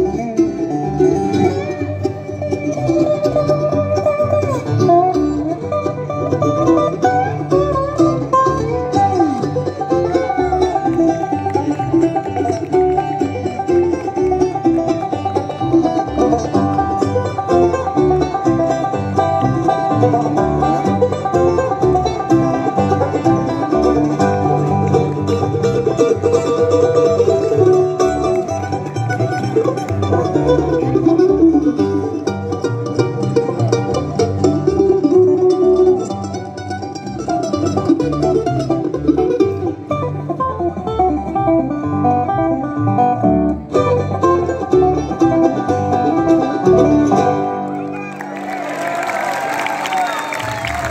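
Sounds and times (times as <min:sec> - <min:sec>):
banjo picking: 0:00.0 - 0:50.9
bluegrass band over speakers: 0:00.0 - 0:50.9.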